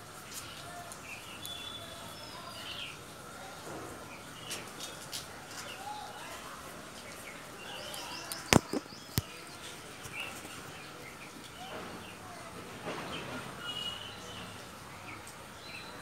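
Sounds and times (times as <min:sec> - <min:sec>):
small birds chirping: 0:00.2 - 0:12.4, 0:13.0 - 0:16.0.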